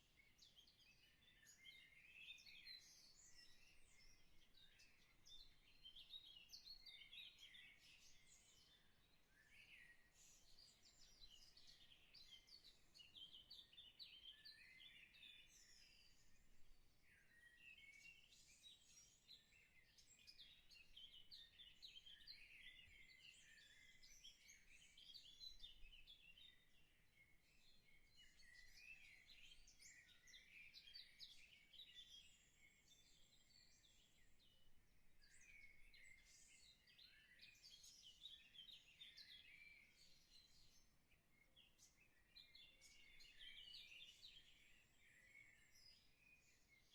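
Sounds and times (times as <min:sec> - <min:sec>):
faint birdsong: 0:00.0 - 0:46.9.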